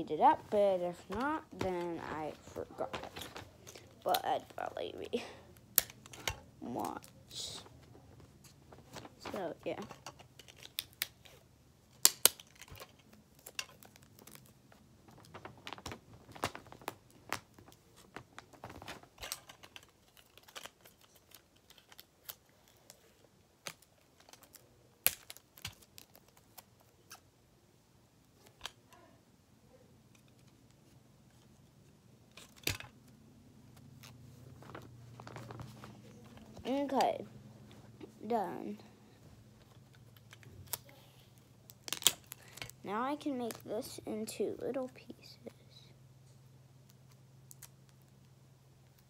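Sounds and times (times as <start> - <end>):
tape and paper crinkling: 0.2 - 27.3, 32.3 - 38.9, 39.5 - 45.9.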